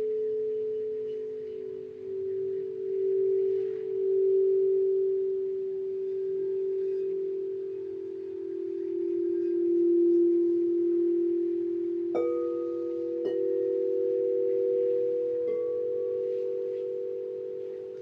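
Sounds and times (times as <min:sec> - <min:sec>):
crystal singing bowls ringing: 0:00.0 - 0:18.0.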